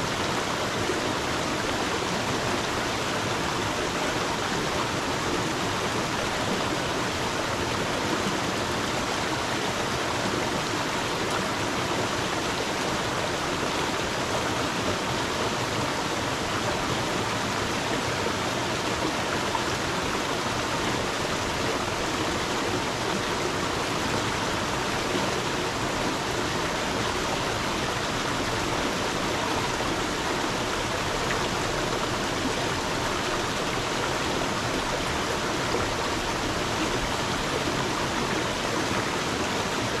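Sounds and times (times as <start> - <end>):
stream running and splashing: 0.0 - 40.0.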